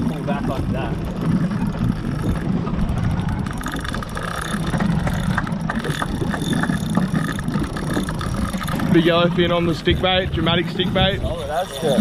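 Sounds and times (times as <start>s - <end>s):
boat engine humming: 0.0s - 12.0s
wind buffeting microphone: 0.0s - 12.0s.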